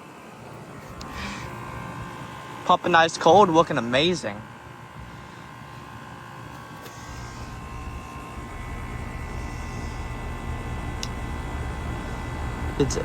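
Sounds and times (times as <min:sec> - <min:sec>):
heat pump compressor hum: 0:00.0 - 0:13.0.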